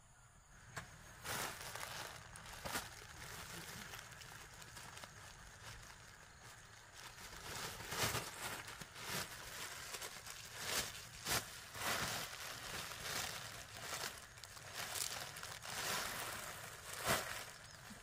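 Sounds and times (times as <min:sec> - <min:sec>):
plastic bag crinkling: 0:01.2 - 0:18.0.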